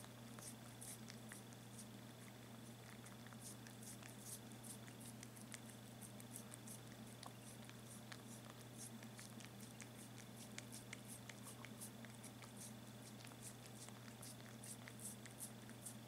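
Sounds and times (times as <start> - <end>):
faint steady hum: 0.0 - 16.0
kitten lapping wet clicks: 0.0 - 16.0.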